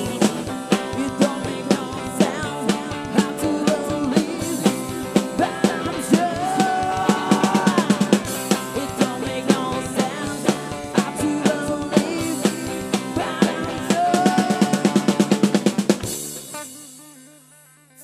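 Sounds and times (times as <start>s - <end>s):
person singing lead vocal: 0.0s - 15.9s
drum kit beat: 0.0s - 17.6s
bass guitar: 0.0s - 18.0s
electric guitar: 0.0s - 18.0s.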